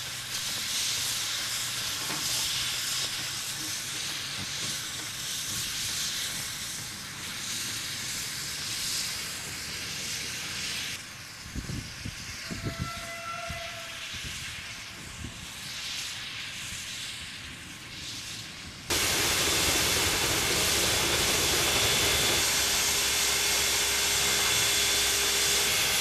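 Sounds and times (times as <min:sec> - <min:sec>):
steam hissing: 0:00.0 - 0:26.0.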